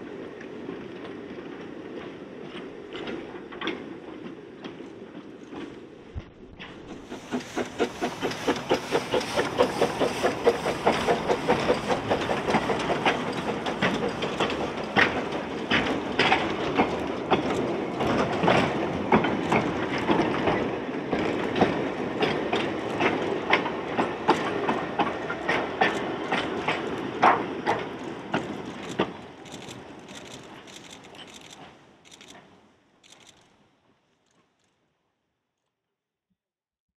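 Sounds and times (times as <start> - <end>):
train wheels clattering over rail joints: 1.9 - 33.5.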